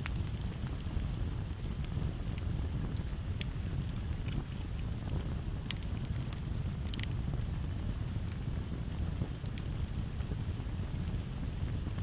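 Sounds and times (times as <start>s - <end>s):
campfire crackling and popping: 0.0s - 12.0s
low rumble of flames and breeze: 0.0s - 12.0s.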